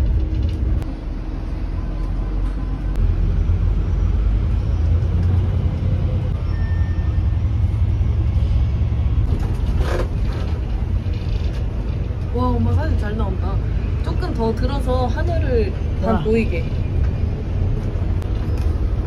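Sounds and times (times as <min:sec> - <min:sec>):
bus rumbling in traffic: 0:00.0 - 0:19.0.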